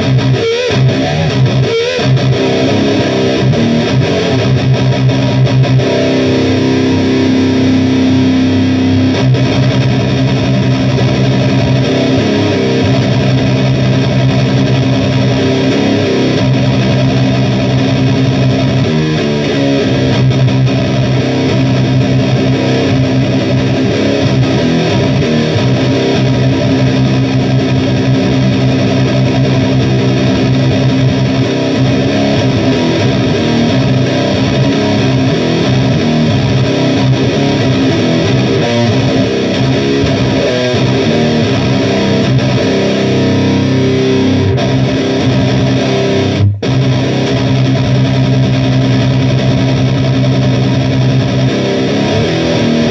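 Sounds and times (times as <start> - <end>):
distorted electric guitar chords: 0.0 - 52.9.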